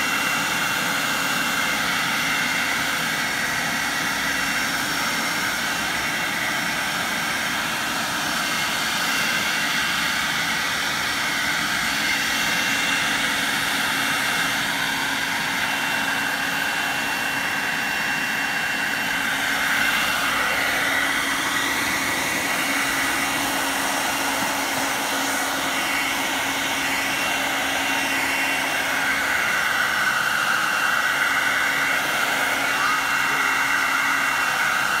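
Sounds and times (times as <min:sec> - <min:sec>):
leaf vacuum motor whine: 0:00.0 - 0:35.0.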